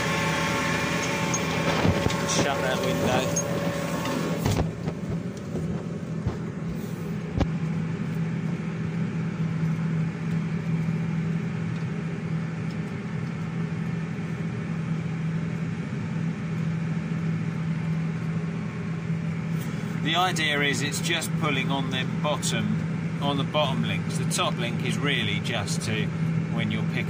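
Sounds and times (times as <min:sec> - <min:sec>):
tractor engine drone inside cab: 0:00.0 - 0:27.0.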